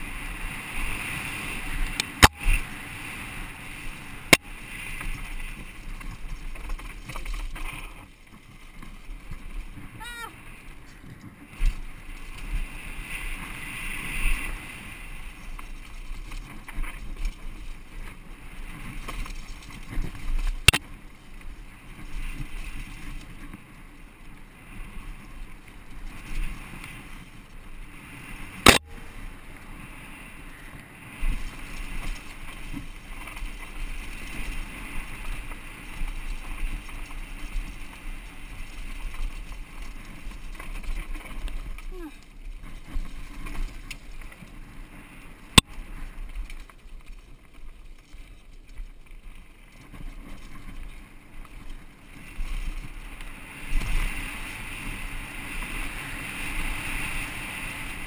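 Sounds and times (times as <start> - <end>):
bike rattling over bumps: 0.0 - 58.0.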